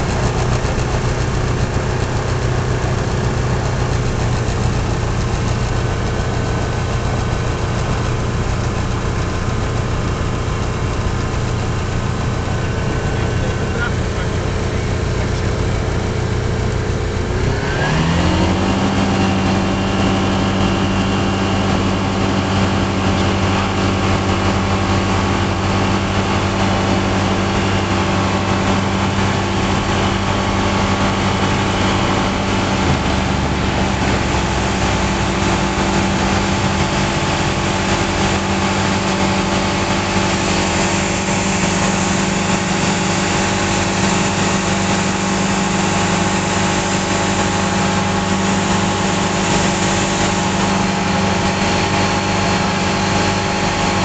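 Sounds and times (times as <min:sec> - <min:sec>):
aircraft engine at full power: 0:00.0 - 0:54.0
rush of air and propeller: 0:00.0 - 0:54.0.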